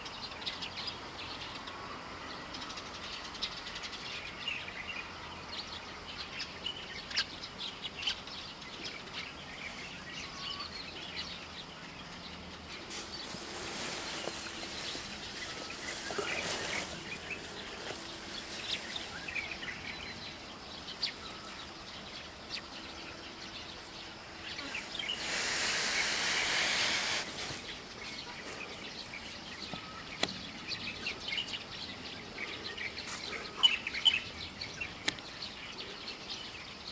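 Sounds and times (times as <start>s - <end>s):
outdoor background noise: 0.0s - 36.9s
small birds chirping: 0.0s - 36.9s.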